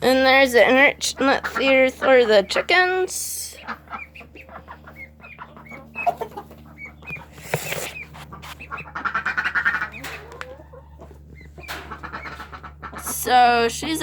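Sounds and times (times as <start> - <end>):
chicks and ducklings peeping: 0.0 - 14.0.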